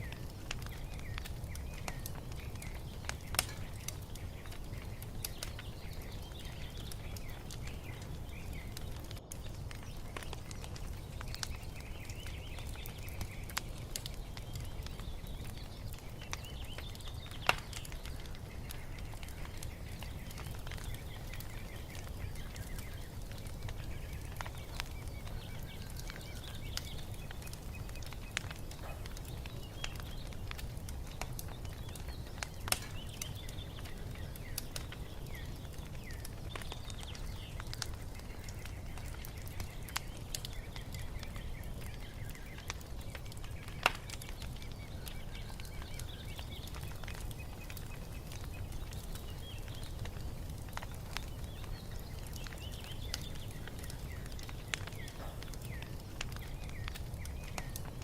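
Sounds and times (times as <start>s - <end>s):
birds chirping faintly: 0.0s - 58.0s
wood fire crackling and popping: 0.0s - 58.0s.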